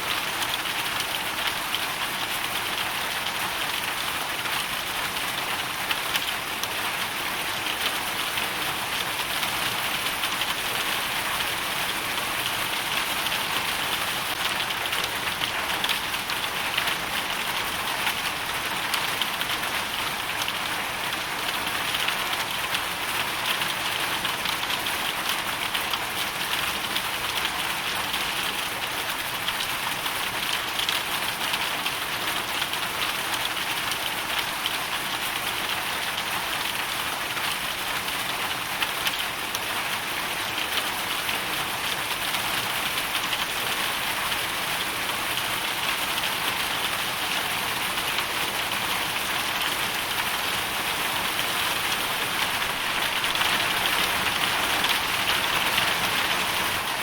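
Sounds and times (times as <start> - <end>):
hail and rain falling: 0.1 - 57.0.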